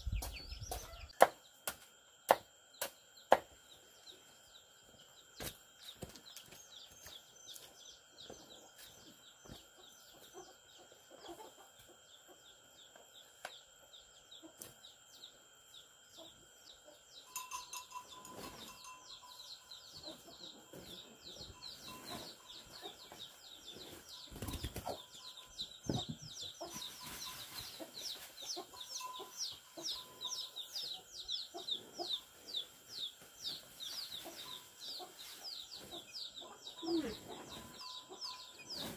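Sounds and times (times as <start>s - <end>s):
chickens peeping: 0.0s - 1.2s, 4.9s - 17.3s, 18.0s - 38.9s.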